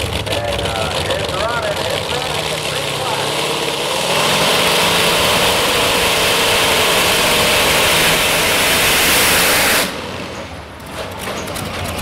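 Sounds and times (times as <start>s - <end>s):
tractor engine running flat out: 0.0s - 12.0s.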